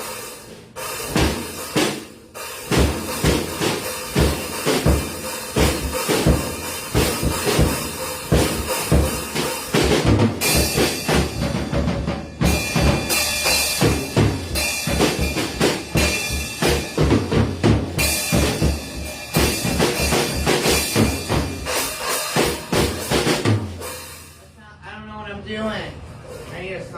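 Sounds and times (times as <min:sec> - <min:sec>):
cymbals washing: 0:00.0 - 0:24.4
bass drum and snare hits: 0:01.0 - 0:24.1.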